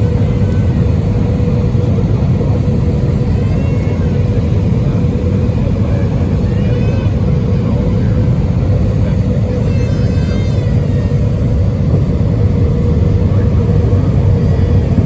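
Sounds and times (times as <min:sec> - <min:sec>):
constant hum: 0:00.0 - 0:15.0
engine and air roar: 0:00.0 - 0:15.0.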